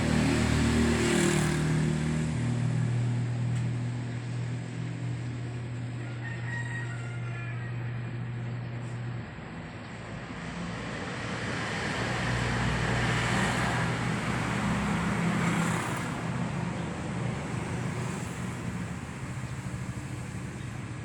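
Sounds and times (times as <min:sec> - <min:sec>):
motor vehicle passing: 0:00.0 - 0:06.2, 0:08.0 - 0:21.0.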